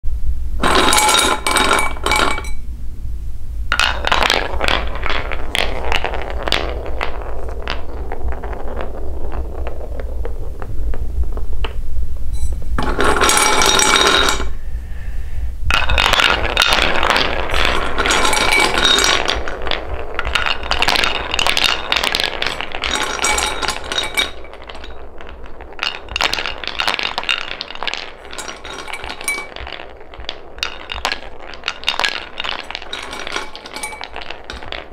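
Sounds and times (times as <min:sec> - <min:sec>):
balls clacking together: 0:00.6 - 0:02.6, 0:03.7 - 0:14.6, 0:15.6 - 0:34.9
balls rolling on wooden track: 0:00.6 - 0:02.6, 0:03.7 - 0:14.6, 0:15.7 - 0:34.9.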